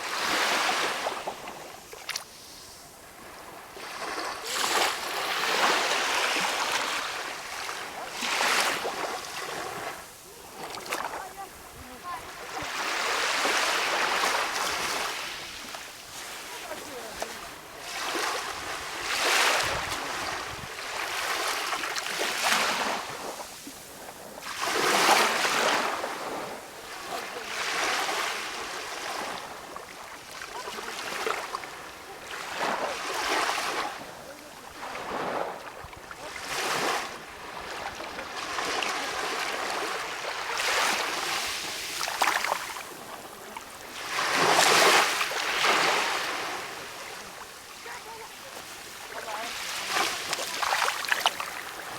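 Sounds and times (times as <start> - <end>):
small waves washing onto shore: 0.0 - 51.9.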